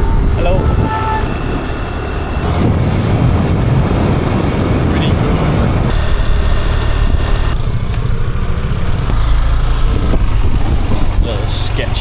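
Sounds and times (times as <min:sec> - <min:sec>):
motorbike engine running: 0:00.0 - 0:11.6.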